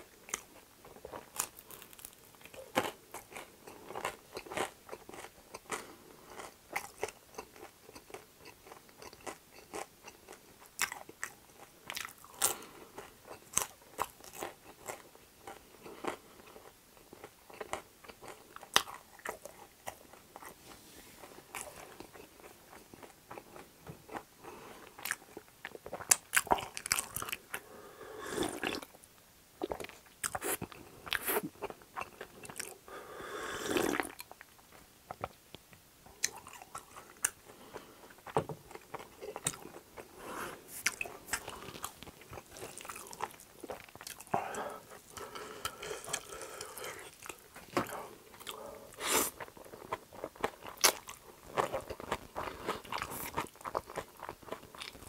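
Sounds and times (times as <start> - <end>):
chewing and crunching food: 0.0 - 33.0, 33.8 - 55.0.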